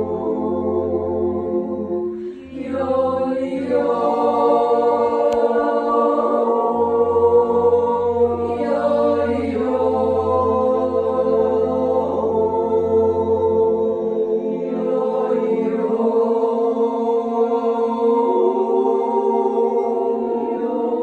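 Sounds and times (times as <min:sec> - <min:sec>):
group yodeling in harmony: 0:00.0 - 0:21.0.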